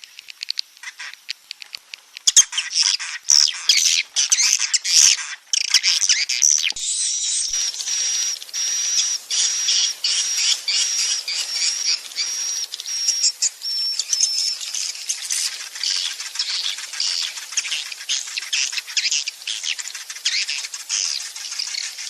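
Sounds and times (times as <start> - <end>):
hissing twitter of birds: 2.3 - 22.0
swiftlet calls: 2.3 - 22.0.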